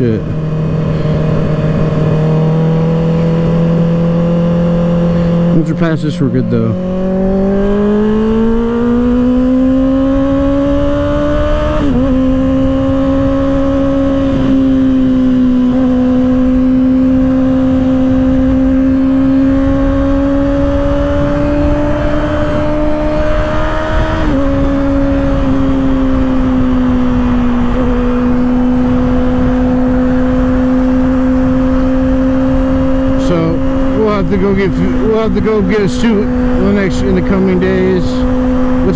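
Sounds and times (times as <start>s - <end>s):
motorcycle engine revving: 0.0s - 38.9s
wind noise: 6.8s - 38.9s.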